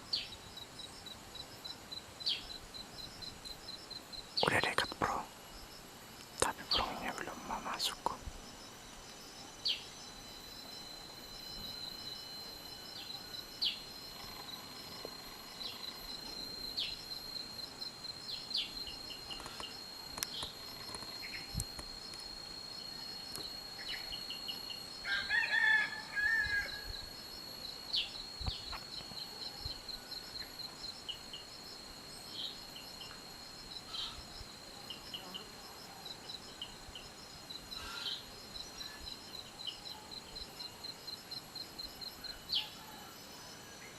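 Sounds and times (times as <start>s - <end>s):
insect drone: 0.0s - 43.9s.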